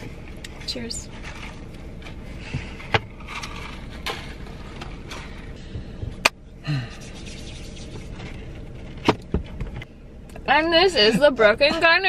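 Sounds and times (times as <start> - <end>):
low cabin hum: 0.0 - 12.0.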